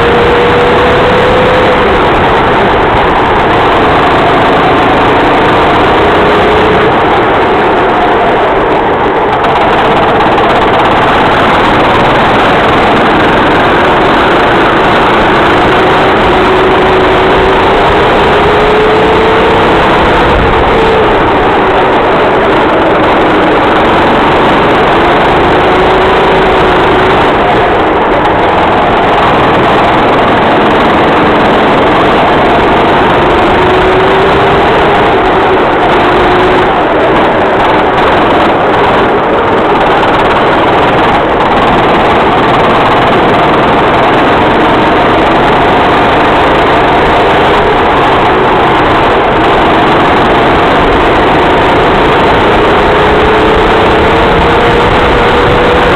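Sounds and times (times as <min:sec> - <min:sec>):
racing kart engine: 0:00.0 - 0:55.9.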